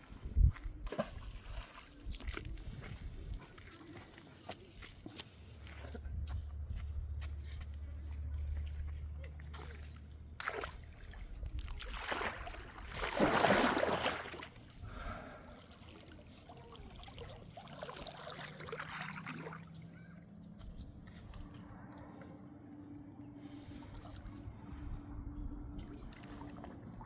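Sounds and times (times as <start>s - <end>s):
water splashing and sloshing: 0.1s - 27.0s.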